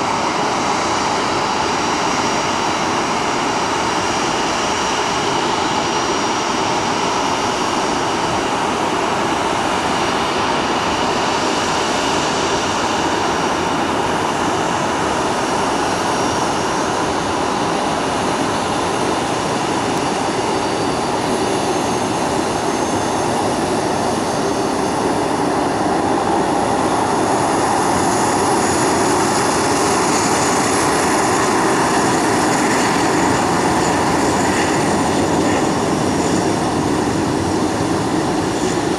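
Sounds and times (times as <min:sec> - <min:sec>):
jet engines whining: 0:00.0 - 0:38.9.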